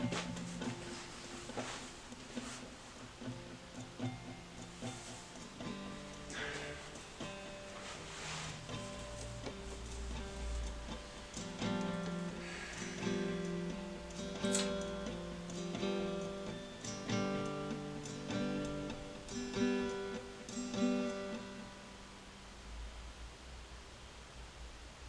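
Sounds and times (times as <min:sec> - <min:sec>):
acoustic guitar strumming chords: 0:00.0 - 0:22.3.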